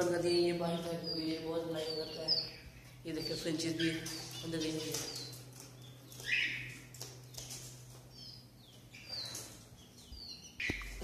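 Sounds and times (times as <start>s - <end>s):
low steady hum: 0.0s - 11.0s
small birds chirping: 0.0s - 11.0s.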